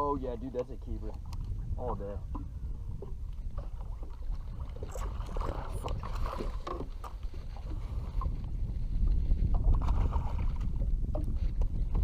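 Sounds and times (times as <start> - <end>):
water around boat: 0.0 - 12.0
wind on microphone: 0.0 - 12.0.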